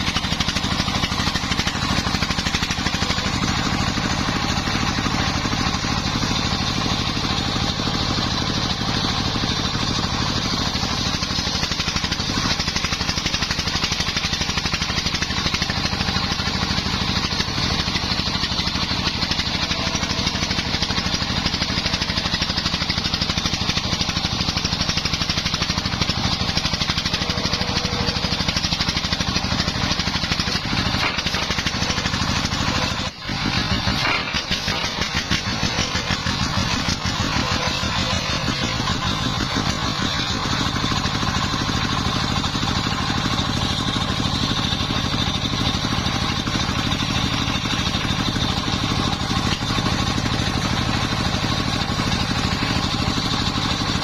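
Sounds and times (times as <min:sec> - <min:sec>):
sawmill blade droning: 0:00.0 - 0:54.0.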